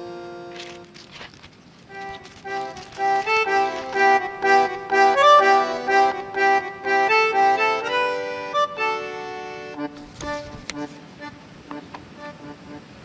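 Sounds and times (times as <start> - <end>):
accordion tune: 0.0 - 13.0.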